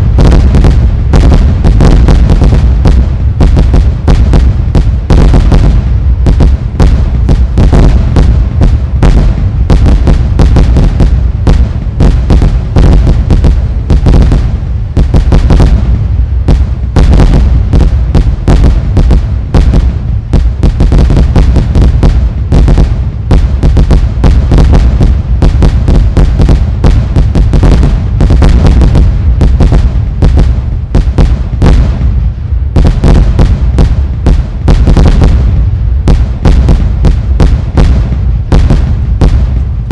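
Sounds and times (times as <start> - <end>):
fireworks banging: 0.0 - 39.9
heavy low rumble: 0.0 - 39.9.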